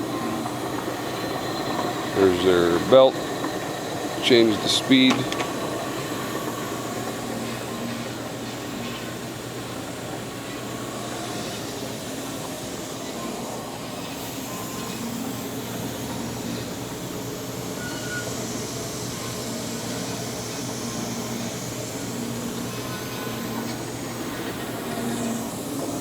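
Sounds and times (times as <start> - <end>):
band saw whirring: 0.0 - 26.0.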